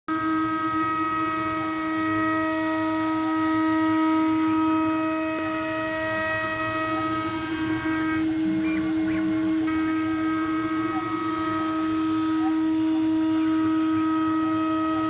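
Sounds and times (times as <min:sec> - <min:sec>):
hissing wood cutting noise: 0:00.1 - 0:15.0
router spindle whine: 0:00.1 - 0:15.0.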